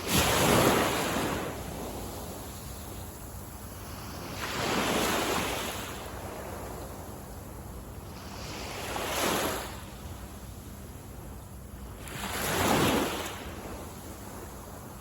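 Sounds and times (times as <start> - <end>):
small waves breaking on sand: 0.0 - 11.1, 11.9 - 15.0.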